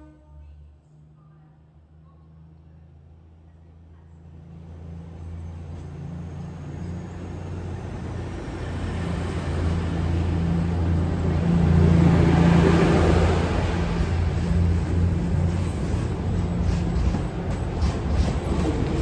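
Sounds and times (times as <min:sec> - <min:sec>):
diesel train engine hum: 0:00.0 - 0:19.0.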